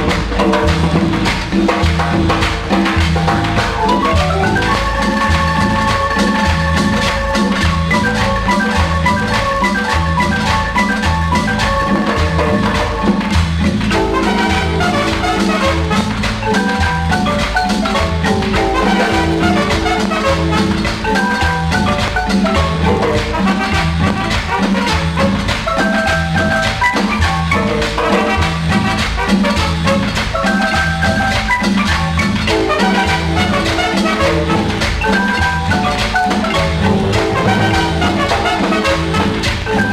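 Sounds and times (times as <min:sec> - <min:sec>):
bass and percussion beat: 0:00.0 - 0:39.9
marimba music: 0:00.0 - 0:39.9.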